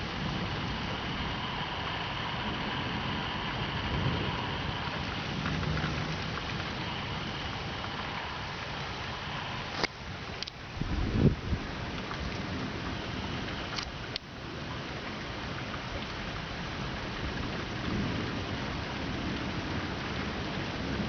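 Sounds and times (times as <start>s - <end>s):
rumble of thunder: 0.0s - 9.7s, 10.7s - 13.7s, 16.7s - 21.0s
steady rain: 0.0s - 21.0s.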